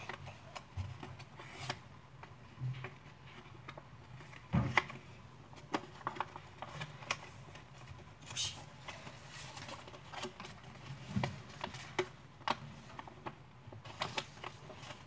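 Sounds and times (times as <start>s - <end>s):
paper crinkling and creasing: 0.0s - 15.0s.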